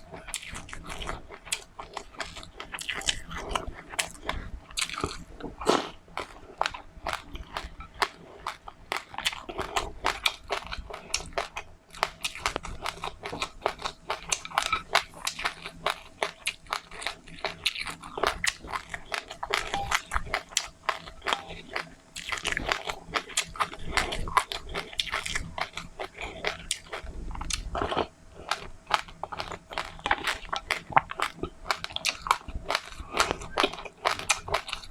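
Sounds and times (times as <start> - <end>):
chewing crunchy seeds: 0.0 - 34.9.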